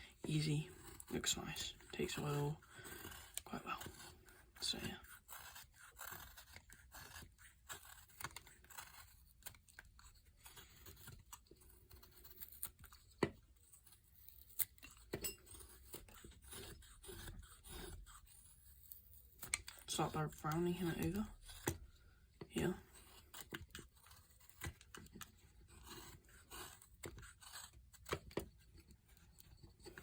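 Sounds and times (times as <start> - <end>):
knife scraping wood: 0.1 - 30.0.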